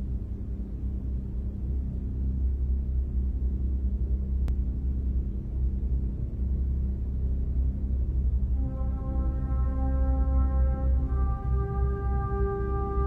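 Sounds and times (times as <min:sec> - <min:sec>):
deep bass drone: 0:00.0 - 0:13.0
low rumble: 0:00.0 - 0:13.0.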